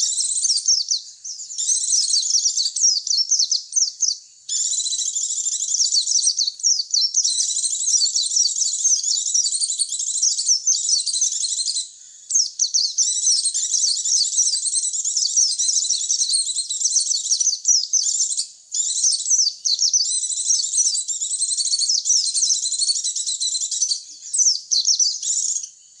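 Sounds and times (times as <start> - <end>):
birds twittering: 0.0 - 26.0.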